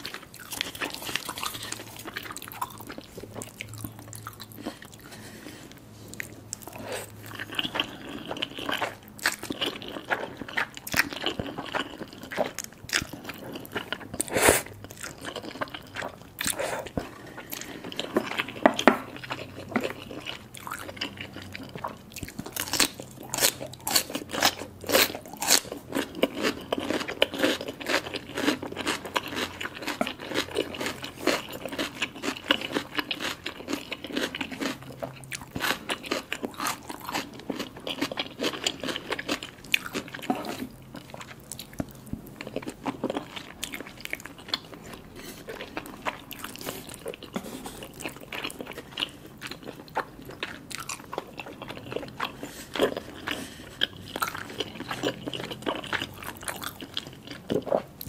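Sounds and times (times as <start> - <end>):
mouth chewing soft food: 0.0 - 58.0.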